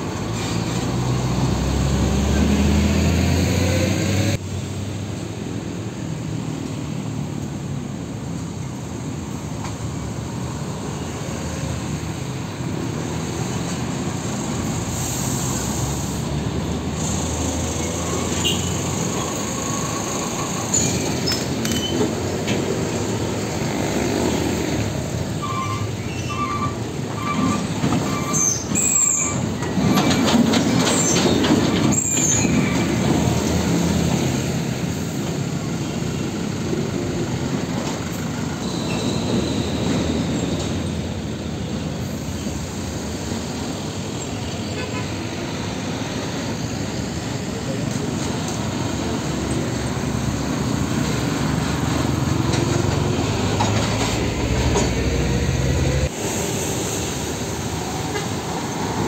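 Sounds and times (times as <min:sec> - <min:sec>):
heavy trucks rumbling past: 0:00.0 - 0:59.0.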